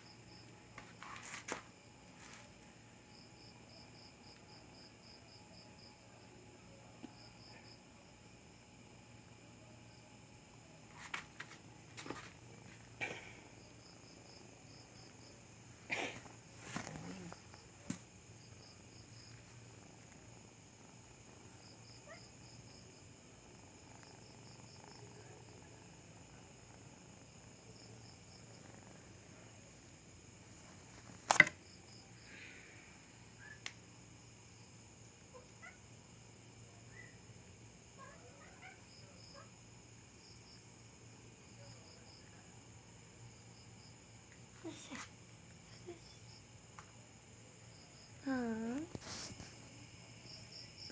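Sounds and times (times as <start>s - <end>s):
faint insect-like chirping: 0.0s - 50.9s.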